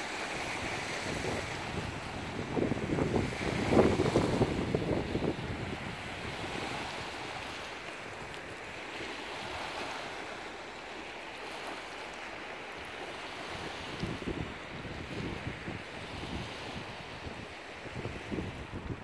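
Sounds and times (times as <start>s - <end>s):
wind on microphone: 0.0s - 10.3s, 13.2s - 19.0s
waves lapping on pebble shore: 0.0s - 19.0s.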